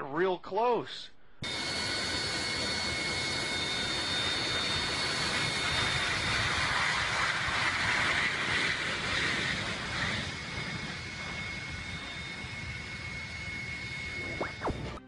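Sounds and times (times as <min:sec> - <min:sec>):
jet engines roaring and whining: 0:01.3 - 0:15.0
plane skidding along runway: 0:01.4 - 0:15.0.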